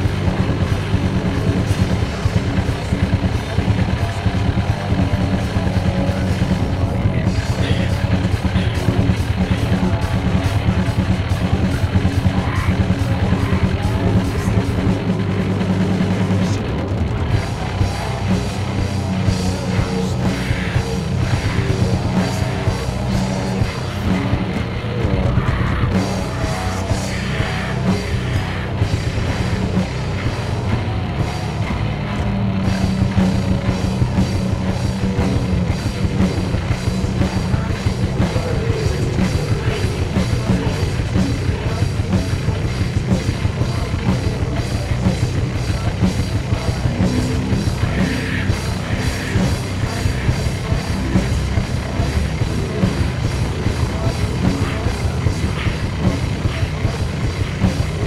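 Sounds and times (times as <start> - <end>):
driving drum-kit beat: 0.0 - 58.0
heavy low bass: 0.0 - 58.0.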